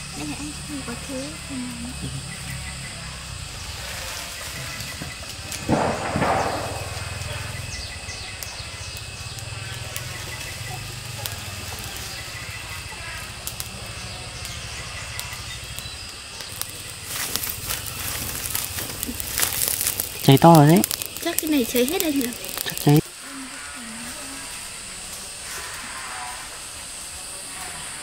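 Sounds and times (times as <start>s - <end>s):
fire rushing: 0.0s - 28.0s
small fire crackling: 0.0s - 28.0s.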